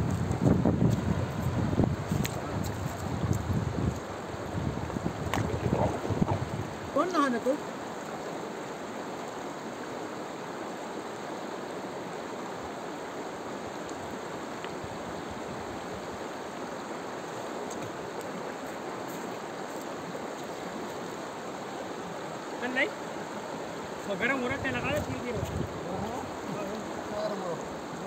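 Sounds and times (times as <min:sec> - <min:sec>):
river rushing over rapids: 0:00.0 - 0:28.0.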